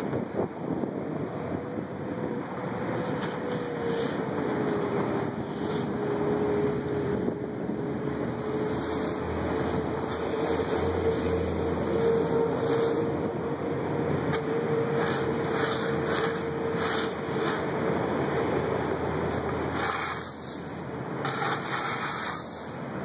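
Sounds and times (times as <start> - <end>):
machinery hum: 0.0 - 23.0.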